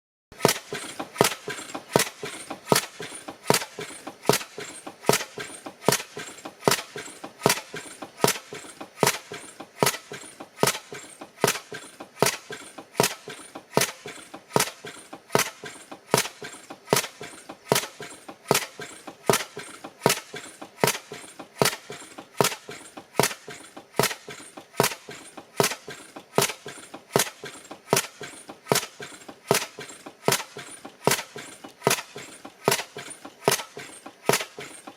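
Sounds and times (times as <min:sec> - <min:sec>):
gas engine running with sharp clack: 0:00.3 - 0:34.9
light ticks and clatter: 0:00.4 - 0:34.9.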